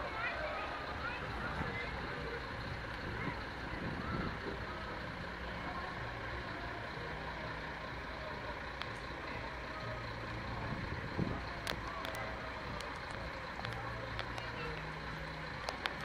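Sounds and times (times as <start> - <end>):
bus diesel engine passing: 0.0 - 16.0.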